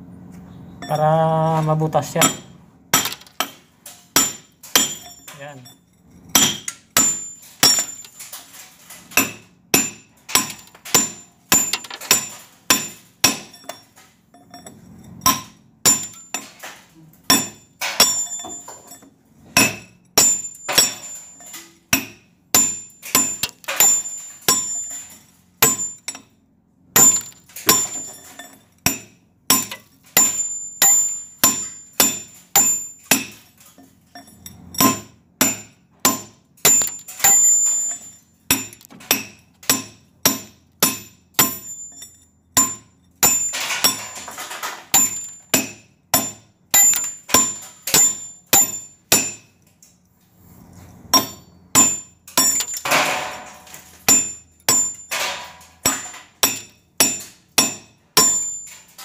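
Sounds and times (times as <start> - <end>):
hammer striking steel chisel: 2.2 - 8.2, 9.1 - 16.7, 17.3 - 26.3, 27.0 - 33.5, 34.2 - 44.2, 44.9 - 49.6, 51.1 - 59.0.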